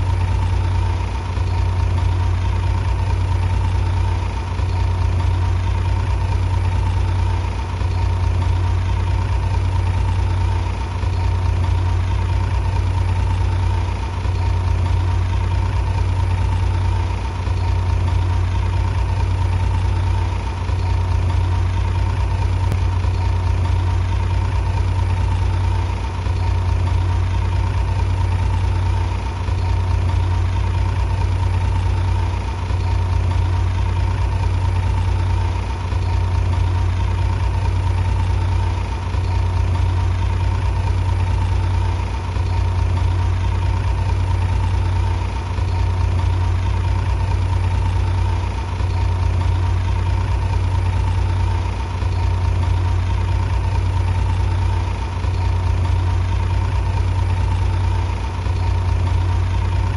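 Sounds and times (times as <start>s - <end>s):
heavy machine engine droning: 0.0s - 59.9s.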